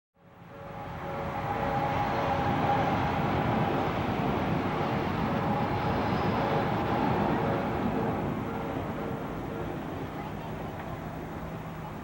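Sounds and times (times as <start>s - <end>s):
electric train rumbling: 0.2s - 12.0s
faint whine: 0.2s - 12.0s.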